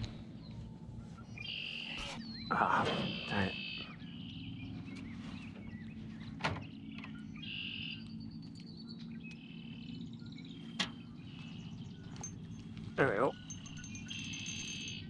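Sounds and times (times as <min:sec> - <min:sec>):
songbirds chirping and singing: 0:00.0 - 0:15.0
steady low hum: 0:00.0 - 0:15.0.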